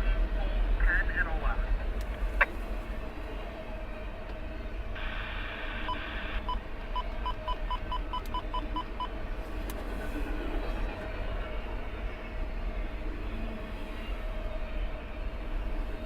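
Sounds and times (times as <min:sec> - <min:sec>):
low rumble of passing train: 0:00.0 - 0:16.0.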